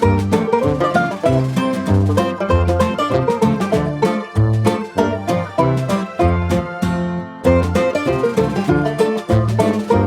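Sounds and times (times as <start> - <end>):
upbeat plucked string music: 0.0 - 10.0.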